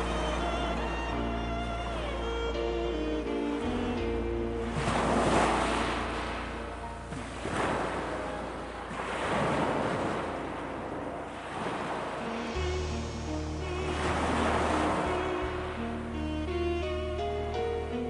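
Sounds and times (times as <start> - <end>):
ocean waves washing: 0.0 - 18.0
soft sustained music tones: 0.0 - 18.0.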